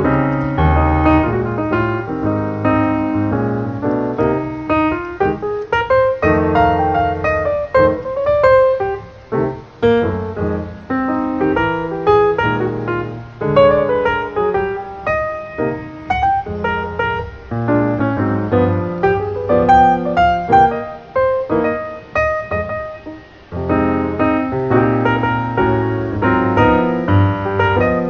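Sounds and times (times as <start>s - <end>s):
piano melody over low chords: 0.0s - 28.0s.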